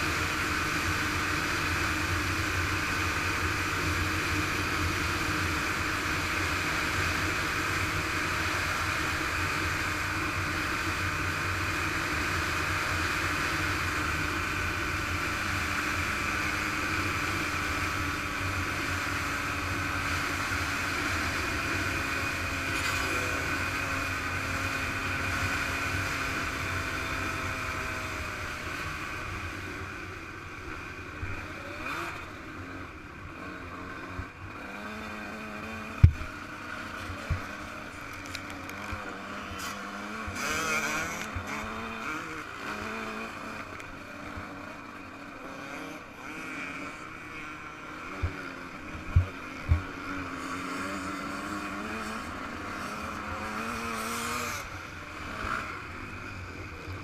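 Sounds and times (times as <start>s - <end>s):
motocross engine running: 0.0s - 57.0s.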